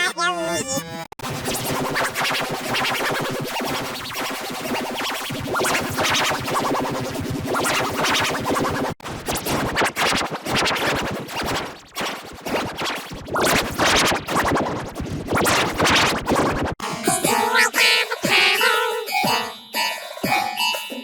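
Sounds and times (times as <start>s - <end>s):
record scratching: 0.0s - 4.2s, 5.4s - 18.8s
processed electronic music: 0.0s - 21.0s.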